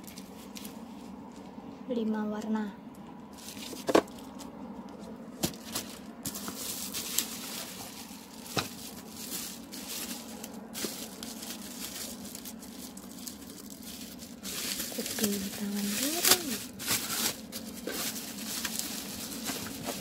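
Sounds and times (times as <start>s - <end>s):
bubble wrap crinkling: 0.0s - 1.2s, 3.3s - 4.5s, 5.4s - 20.0s.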